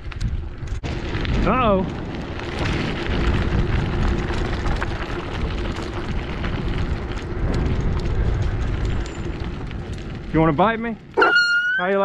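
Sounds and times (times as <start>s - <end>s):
bicycle tyres crunching gravel: 0.0s - 12.0s
wind buffeting microphone: 0.0s - 12.0s.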